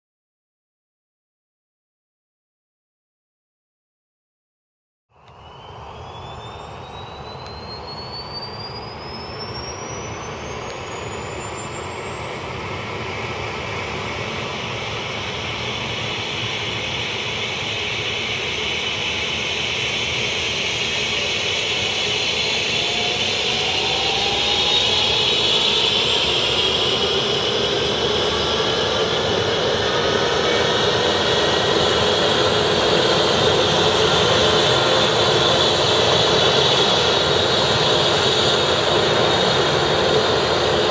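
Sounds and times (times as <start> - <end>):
helicopter turbine starting up: 5.2 - 40.9.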